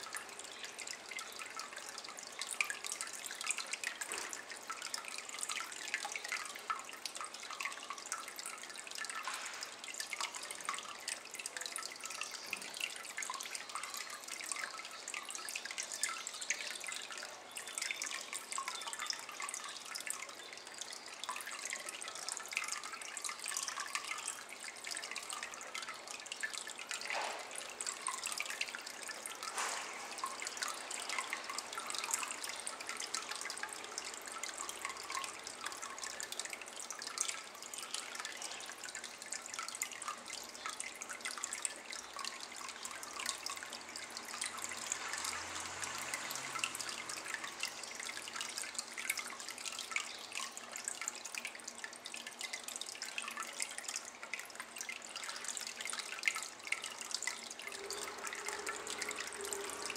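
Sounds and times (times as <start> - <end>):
water trickling into basin: 0.0 - 59.9.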